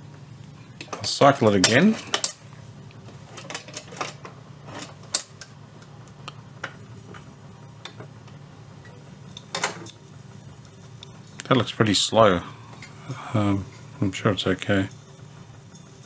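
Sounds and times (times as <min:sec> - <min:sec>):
record changer motor hum: 0:00.0 - 0:16.0.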